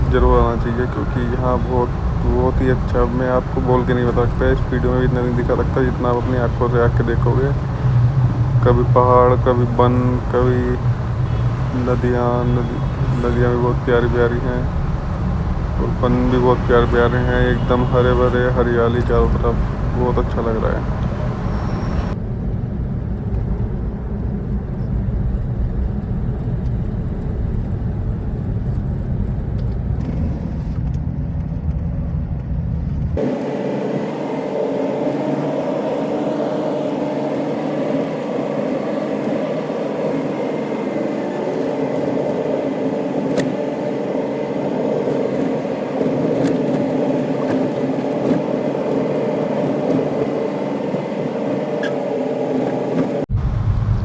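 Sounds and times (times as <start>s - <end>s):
higher steady hum: 0.0s - 24.3s, 33.2s - 54.0s
vehicle engine and road noise: 0.0s - 54.0s.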